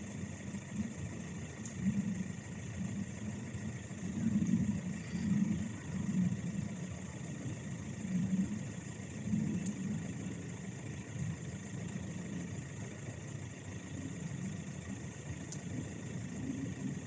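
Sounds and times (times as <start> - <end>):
train engine rumbling: 0.0 - 17.0.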